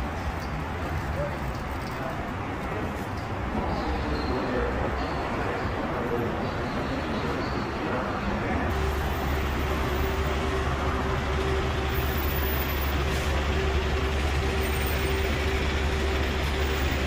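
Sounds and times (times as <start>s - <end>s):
large vehicle engine rumbling: 0.0s - 17.0s.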